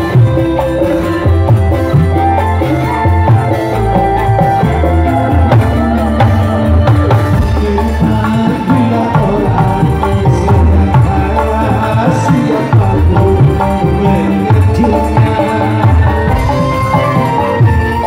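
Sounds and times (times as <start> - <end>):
band playing instrumental music: 0.0 - 18.0.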